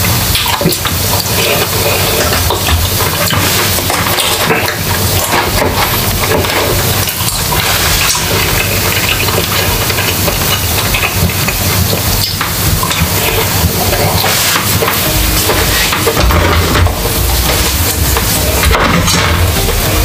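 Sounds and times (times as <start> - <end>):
steady sizzling hiss: 0.0 - 20.0.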